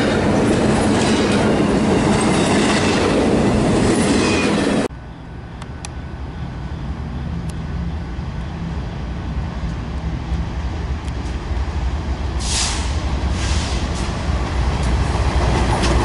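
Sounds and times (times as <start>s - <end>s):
distant freight train rumble: 0.0s - 16.0s
train wheels rumbling on rail: 0.0s - 16.0s.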